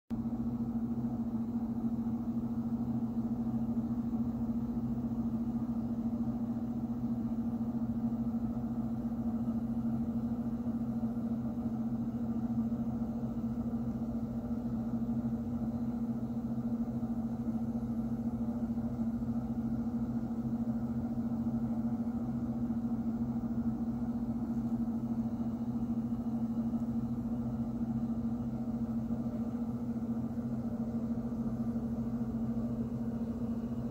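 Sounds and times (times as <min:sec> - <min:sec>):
steady low hum: 0:00.1 - 0:33.9.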